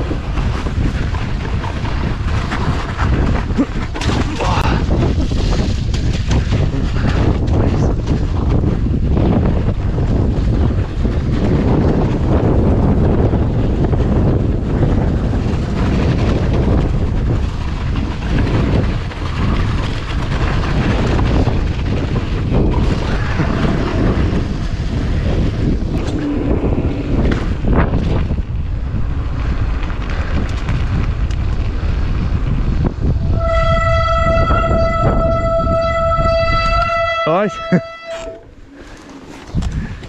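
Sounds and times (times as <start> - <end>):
bike rattles: 0.0 - 40.0
tyre and trail noise: 0.0 - 40.0
wind on microphone: 0.0 - 40.0.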